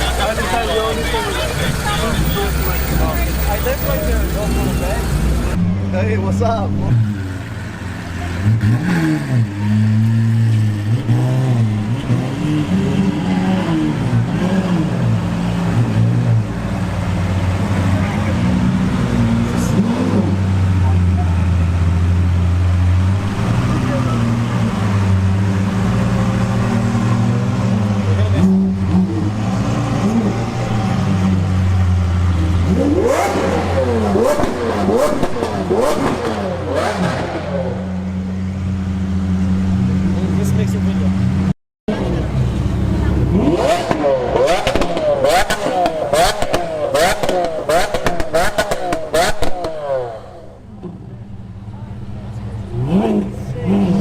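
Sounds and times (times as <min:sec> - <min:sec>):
sports car engine revving: 0:06.4 - 0:54.0.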